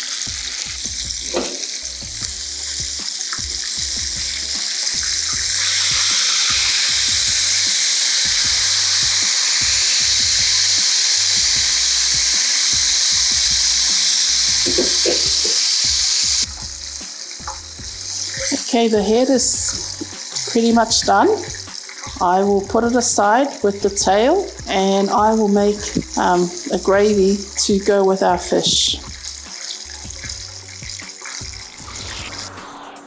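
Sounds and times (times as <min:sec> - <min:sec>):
fish sizzling in hot oil: 0:00.0 - 0:31.8.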